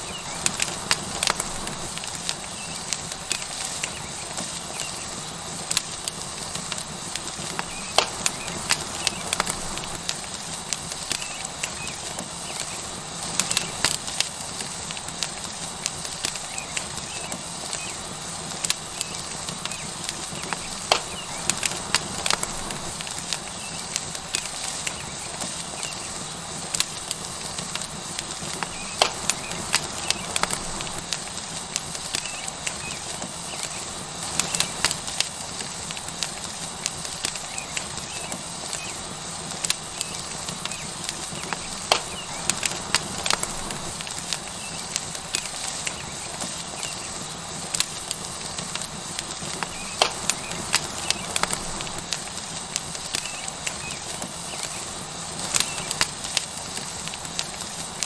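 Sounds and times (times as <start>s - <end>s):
steak sizzling on hot rock: 0.0s - 58.0s
wood fire crackling and popping: 0.0s - 58.0s.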